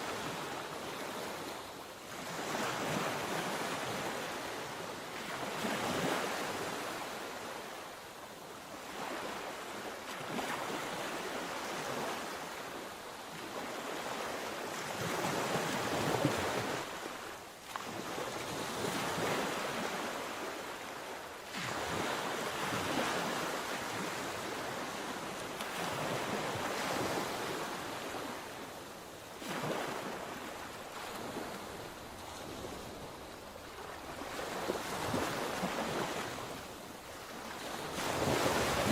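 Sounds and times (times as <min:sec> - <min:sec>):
sea waves breaking on shore: 0:00.0 - 0:08.0, 0:08.6 - 0:38.9.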